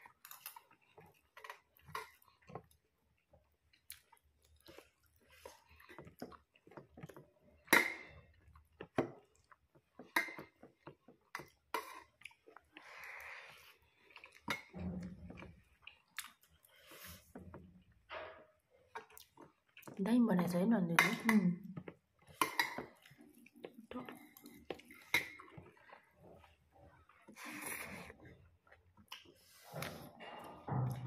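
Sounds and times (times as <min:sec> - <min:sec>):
wet chewing and mouth sounds: 0:00.0 - 0:20.0, 0:21.6 - 0:31.0.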